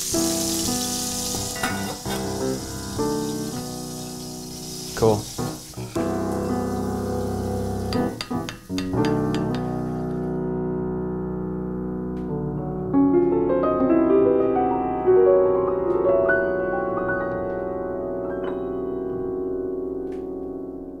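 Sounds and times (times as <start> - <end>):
piano background music: 0.0 - 21.0.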